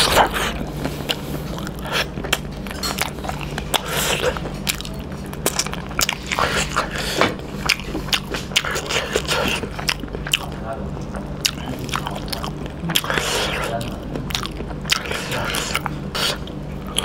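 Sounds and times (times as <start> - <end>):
biting and chewing food: 0.0 - 17.0.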